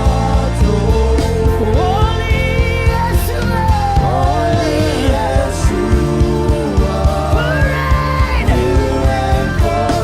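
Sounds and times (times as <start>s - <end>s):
person singing a melody: 0.0s - 10.0s
steady low beat: 0.0s - 10.0s
sustained keyboard chords: 0.0s - 10.0s.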